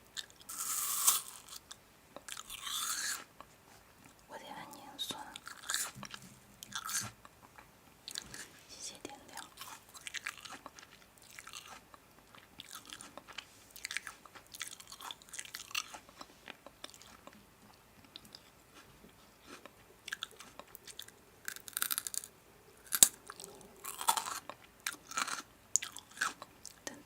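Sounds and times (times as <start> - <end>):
crunching and chewing crisp food: 0.0 - 4.3, 5.1 - 27.0.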